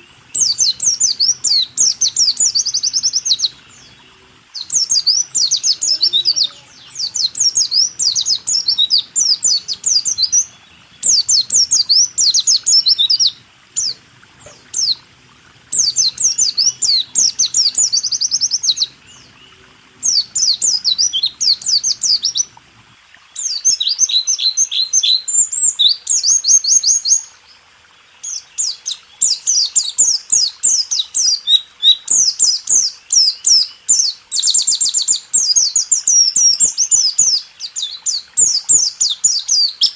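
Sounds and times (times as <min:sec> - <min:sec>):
bird singing fast rolling song: 0:00.0 - 0:39.9.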